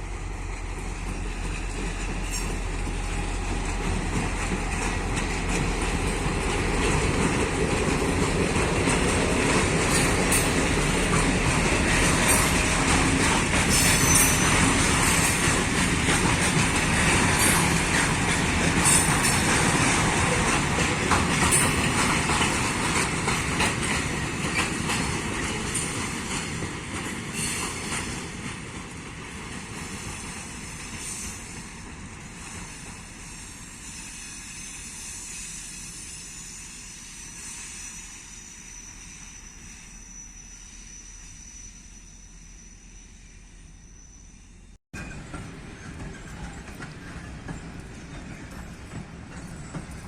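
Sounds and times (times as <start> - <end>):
train rolling on rails: 0.0 - 50.0.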